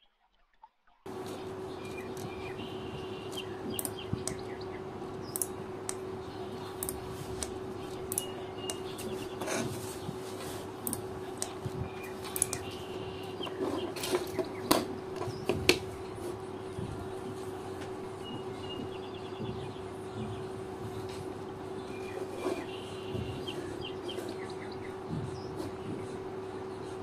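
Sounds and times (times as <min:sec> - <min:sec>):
birds chirping: 0:01.1 - 0:27.0
steady low hum: 0:01.1 - 0:27.0.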